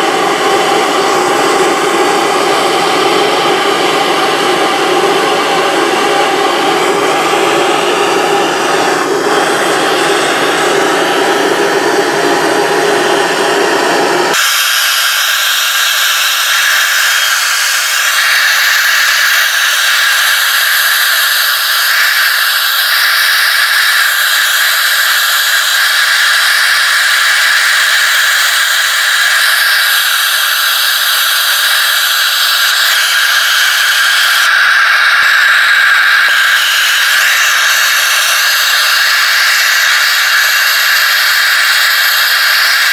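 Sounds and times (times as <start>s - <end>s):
gas torch flame hissing: 0.0s - 42.9s.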